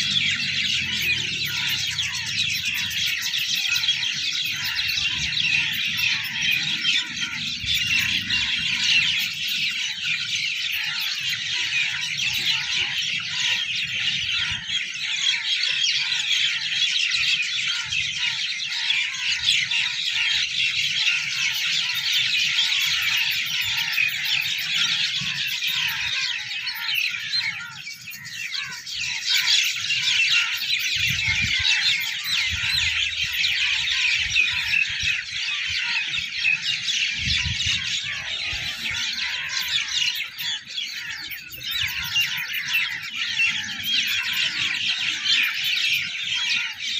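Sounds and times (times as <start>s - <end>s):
low repeated bird call: 0.0s - 46.9s
small birds chirping: 0.0s - 46.9s.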